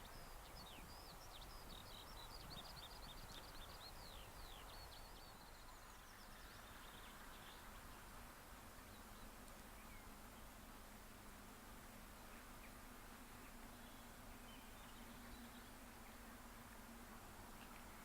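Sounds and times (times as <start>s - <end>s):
songbird chirping: 0.0s - 10.6s, 12.2s - 18.0s
low outdoor hiss: 0.0s - 18.0s.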